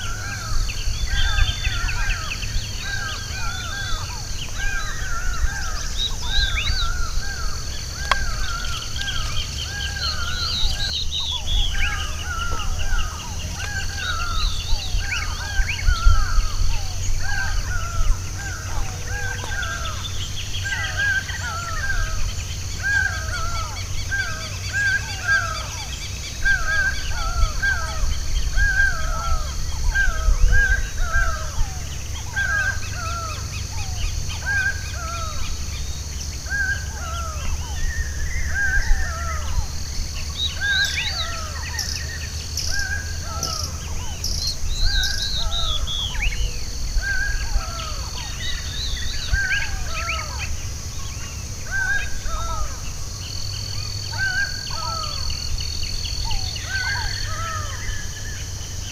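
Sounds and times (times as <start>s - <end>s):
bird chirps and trills: 0.0s - 58.9s
birds falling calls: 0.0s - 58.9s
steady low hum: 0.0s - 58.9s.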